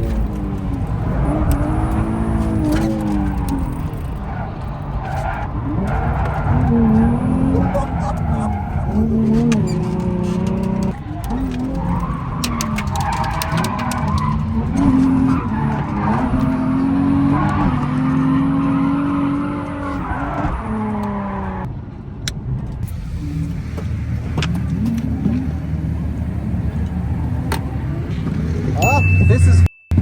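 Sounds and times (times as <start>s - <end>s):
car engine revving: 0.0s - 21.7s, 22.6s - 28.8s
tyres skidding: 0.0s - 30.0s.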